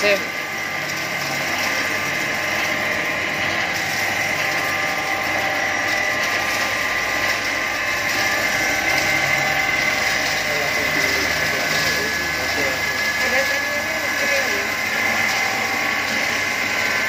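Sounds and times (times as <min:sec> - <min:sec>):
corn mill machine humming: 0:00.0 - 0:17.0
high machine whine: 0:00.0 - 0:17.0.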